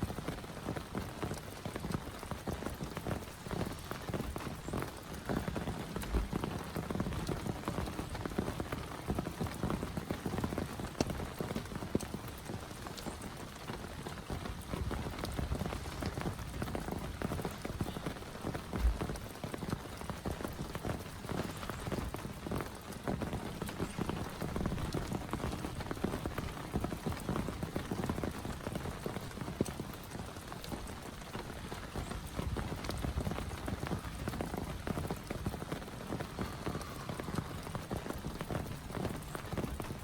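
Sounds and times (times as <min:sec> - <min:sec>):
heavy rain pattering: 0:00.0 - 0:40.0.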